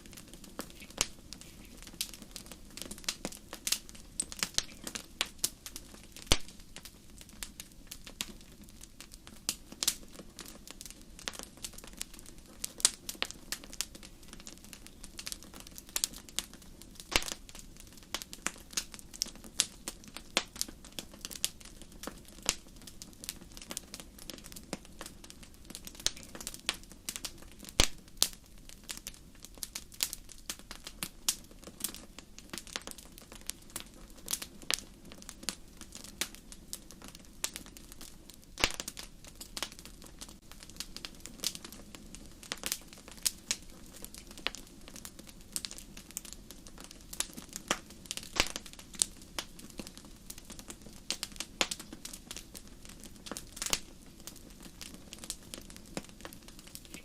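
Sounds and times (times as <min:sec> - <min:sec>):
low burning rumble: 0:00.0 - 0:57.0
wood fire crackling: 0:00.0 - 0:57.0.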